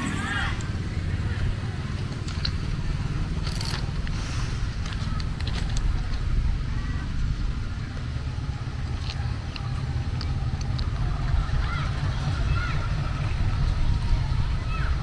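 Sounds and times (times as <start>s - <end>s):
diesel locomotive rumbling: 0.0s - 15.0s
wind buffeting microphone: 0.0s - 15.0s.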